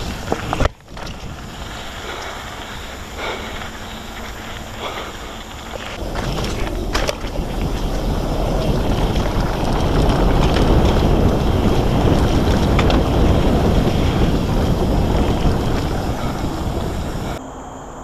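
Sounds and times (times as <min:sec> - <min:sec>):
bike clicks: 0:00.0 - 0:17.4
bike tyres rumbling on dirt: 0:00.0 - 0:17.4
wind on microphone: 0:00.0 - 0:17.4.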